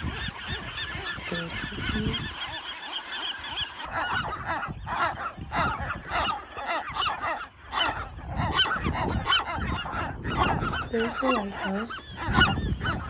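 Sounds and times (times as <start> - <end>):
gulls screaming: 0.0 - 13.0.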